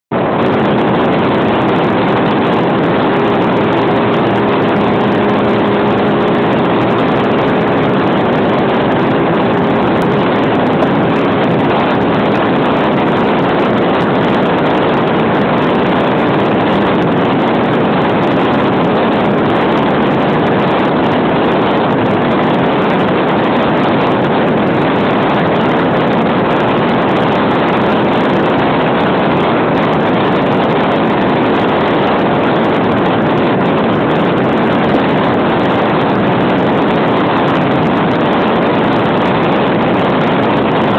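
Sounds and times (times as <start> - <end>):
outboard engine at speed: 0.0 - 40.9
water and wind rushing: 0.0 - 40.9.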